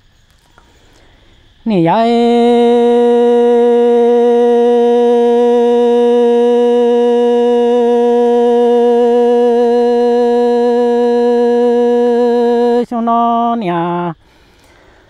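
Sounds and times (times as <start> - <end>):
person singing a long note: 1.6 - 14.3.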